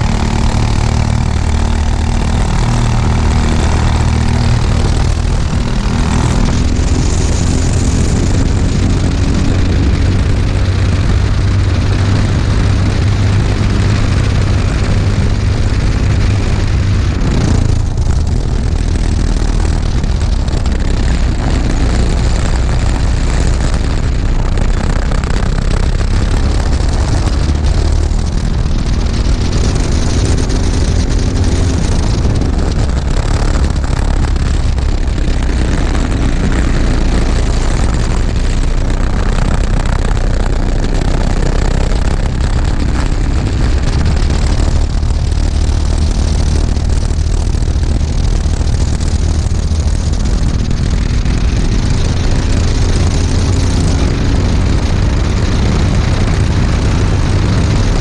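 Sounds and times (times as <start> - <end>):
kart engine running hard: 0.0 - 58.0
wind rumble on microphone: 0.0 - 58.0.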